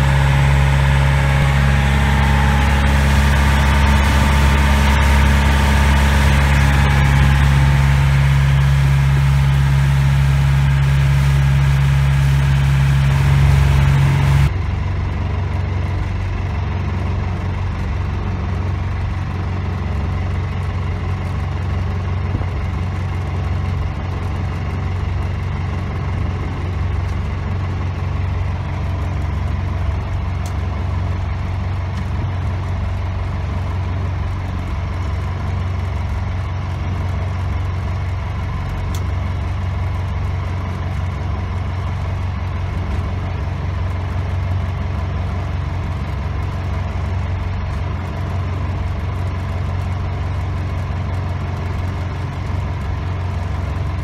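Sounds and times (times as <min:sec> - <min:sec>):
boat engine humming: 0:00.0 - 0:53.9.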